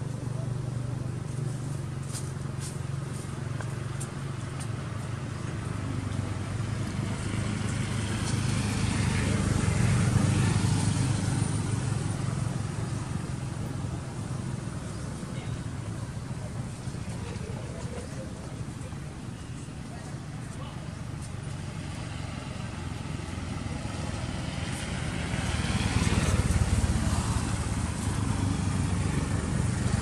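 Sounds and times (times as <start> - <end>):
passing vehicle engine drone: 2.9 - 20.0, 20.8 - 30.0.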